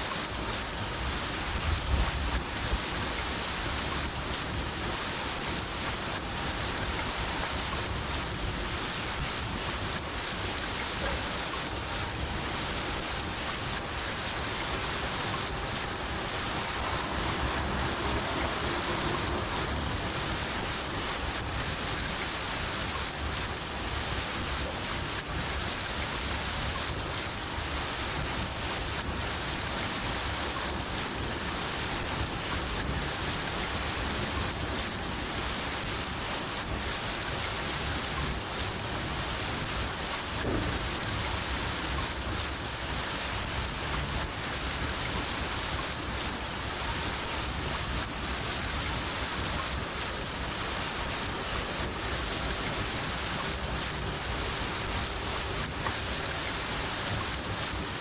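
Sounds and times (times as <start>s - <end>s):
crickets chirping: 0.0s - 58.0s
steady rain: 0.0s - 58.0s.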